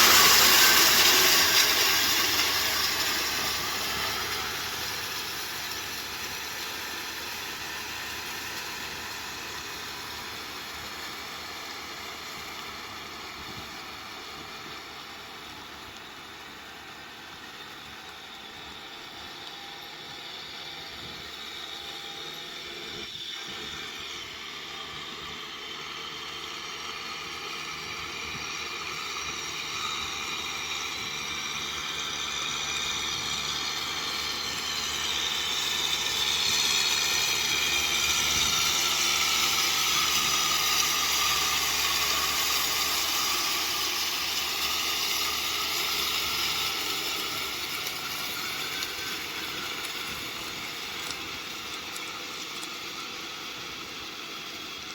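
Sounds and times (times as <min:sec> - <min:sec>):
broad hiss: 0:00.0 - 0:18.0, 0:28.6 - 0:54.9
tractor diesel engine running: 0:00.0 - 0:54.9.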